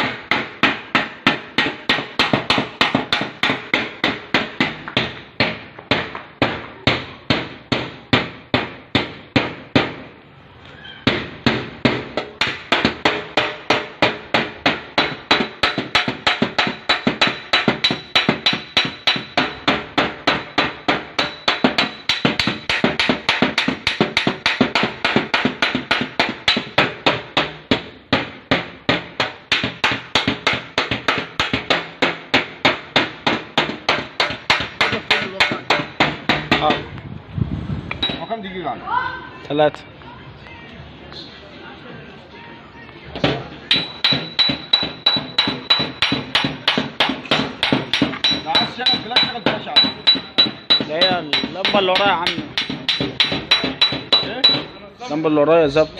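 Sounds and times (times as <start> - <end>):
hammer on sheet metal: 0.0 - 10.1, 11.0 - 36.9, 37.9 - 38.4, 43.2 - 54.8.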